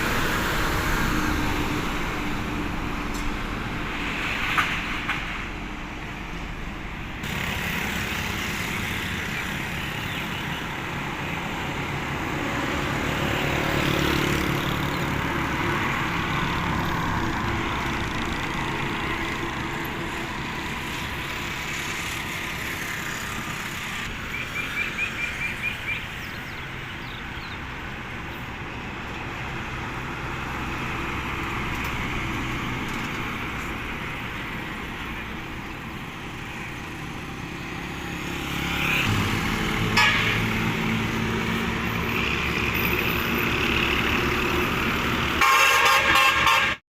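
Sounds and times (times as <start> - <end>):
road traffic noise: 0.0 - 46.8.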